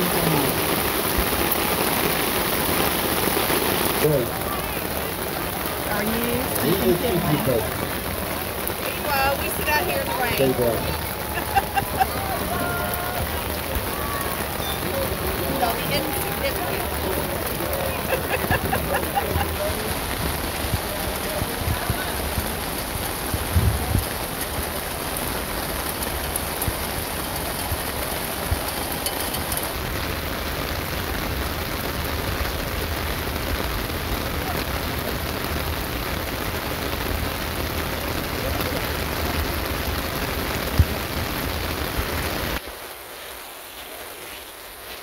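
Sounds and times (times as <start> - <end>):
heavy rain downpour: 0.0 - 45.0.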